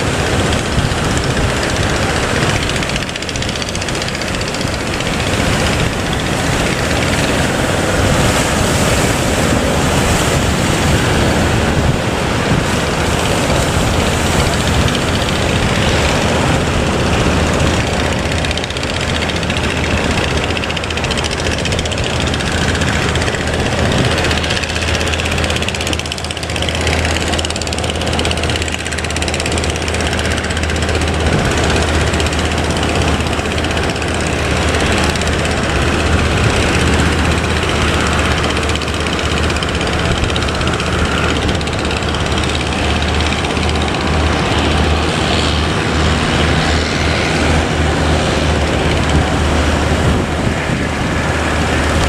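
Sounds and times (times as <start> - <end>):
boat engine humming: 0.0 - 52.0
surf rushing: 0.0 - 52.0
wind noise: 0.0 - 52.0.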